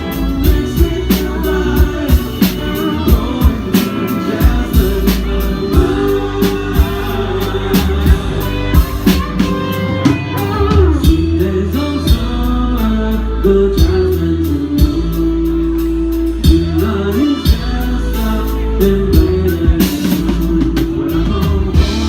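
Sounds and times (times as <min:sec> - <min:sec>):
drum kit beat: 0:00.0 - 0:22.0
person singing: 0:00.0 - 0:22.0
soft rock band playing live: 0:00.0 - 0:22.0.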